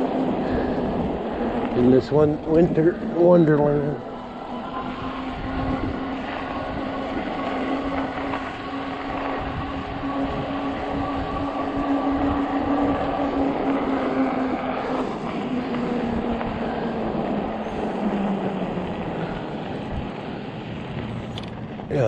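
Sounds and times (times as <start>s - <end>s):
electric bike tyre and drive hum: 0.0s - 22.0s
rushing noise: 0.0s - 22.0s.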